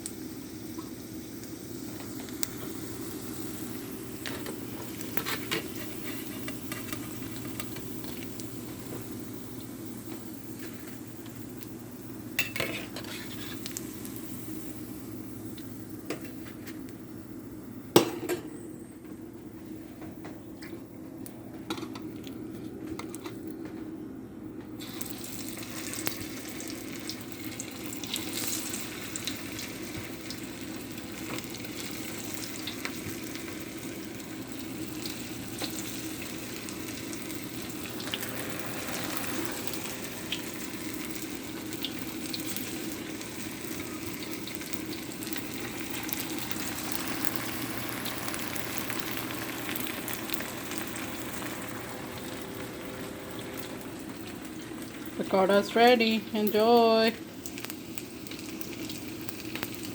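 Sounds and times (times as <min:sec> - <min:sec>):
food sizzling in hot oil: 0:00.0 - 0:16.4, 0:24.8 - 0:59.9.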